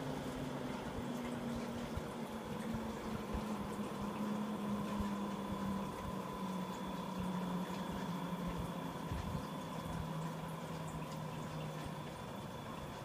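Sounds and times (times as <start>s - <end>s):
computer cooling fan running: 0.0s - 13.0s.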